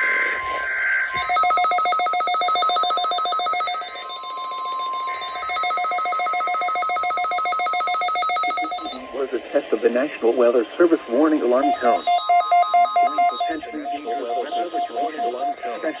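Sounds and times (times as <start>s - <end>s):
steady warning alarm tone: 0.6s - 9.2s, 11.2s - 16.0s.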